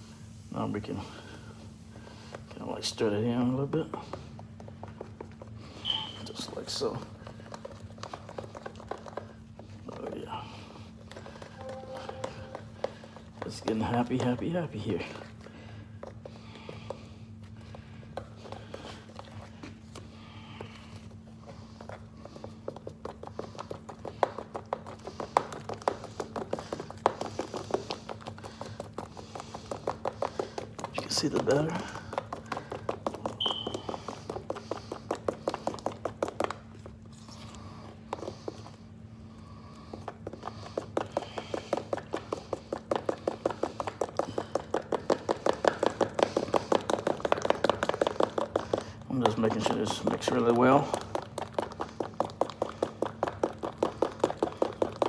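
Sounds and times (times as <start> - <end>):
utensil beating batter in bowl: 0.0 - 55.0.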